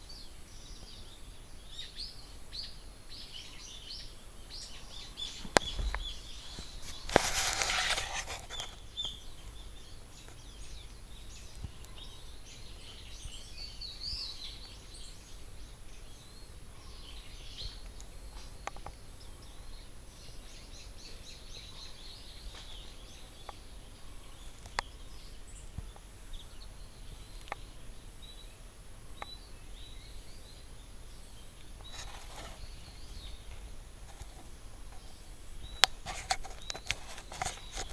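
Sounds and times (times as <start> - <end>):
wild birds chirping: 0.0 - 37.9.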